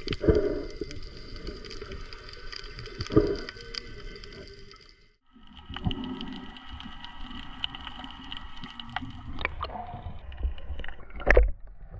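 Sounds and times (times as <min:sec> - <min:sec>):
underwater rumble: 0:00.0 - 0:11.9.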